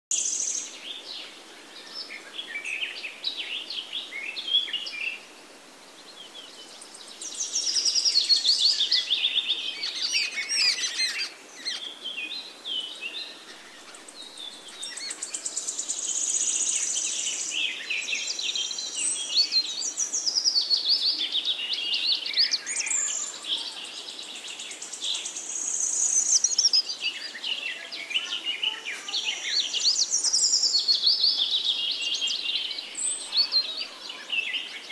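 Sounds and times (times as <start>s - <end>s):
birds chattering and trilling: 0.1s - 34.9s.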